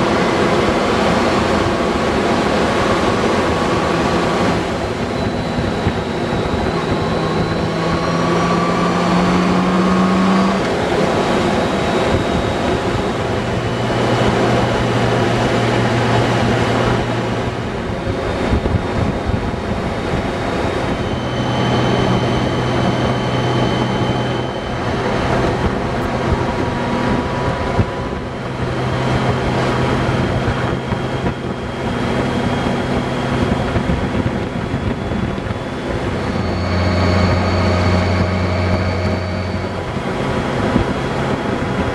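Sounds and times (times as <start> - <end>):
motorcycle engine running: 0.0 - 41.9
wind on microphone: 0.0 - 41.9.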